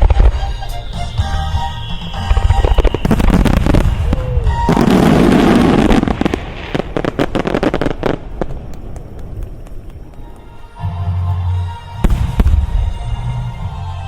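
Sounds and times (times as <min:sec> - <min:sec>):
fireworks bursts and crackle: 0:00.0 - 0:13.8.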